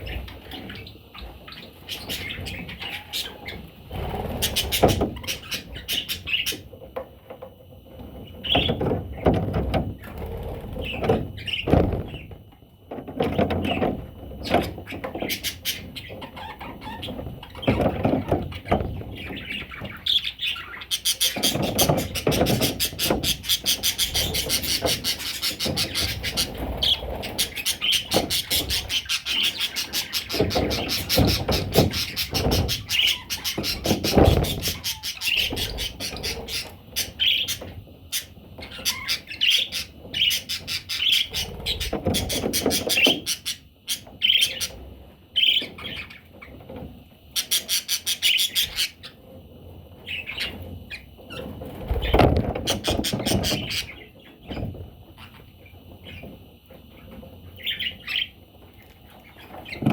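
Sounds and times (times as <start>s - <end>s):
parrot chicks chirping: 0.0s - 6.8s, 8.2s - 12.4s, 13.0s - 59.9s.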